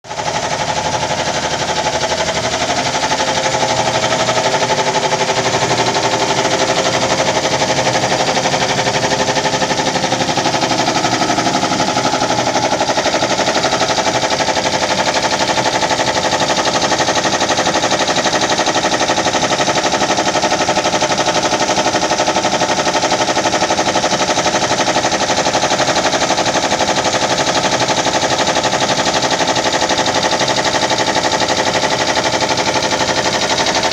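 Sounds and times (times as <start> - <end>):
air compressor running: 0.0 - 33.9.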